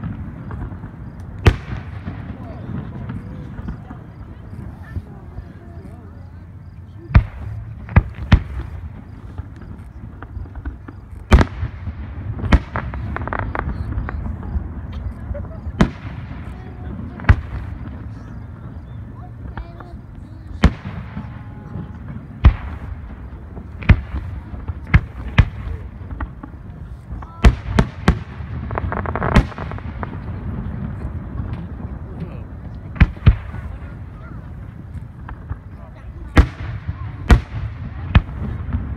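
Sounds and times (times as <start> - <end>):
small firework pops: 0.0 - 6.2, 7.0 - 38.9
fireworks bursting: 0.0 - 38.9.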